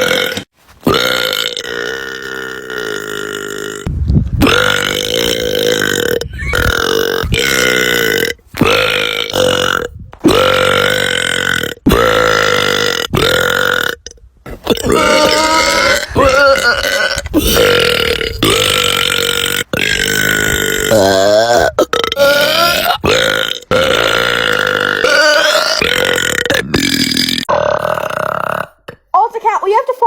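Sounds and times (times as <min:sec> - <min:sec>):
girls burping: 0:00.0 - 0:13.6, 0:14.6 - 0:29.0.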